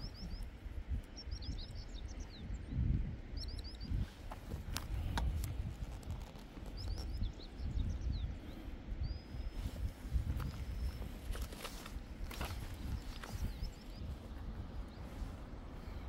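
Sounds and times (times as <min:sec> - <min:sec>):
low uneven rumble: 0:00.0 - 0:16.0
small birds chirping: 0:00.0 - 0:16.0.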